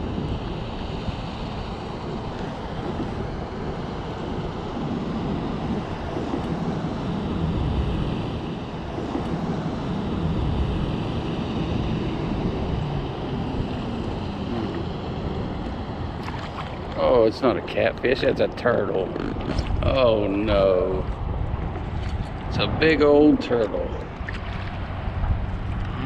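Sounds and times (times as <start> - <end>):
water lapping around kayak: 0.0 - 26.0
wind buffeting microphone: 0.0 - 26.0.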